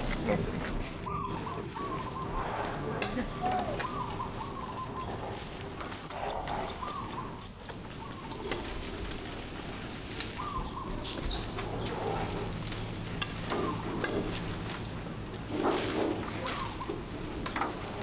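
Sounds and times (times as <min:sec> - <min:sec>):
coo-like calls: 0:00.0 - 0:18.0
outdoor background: 0:00.0 - 0:18.0.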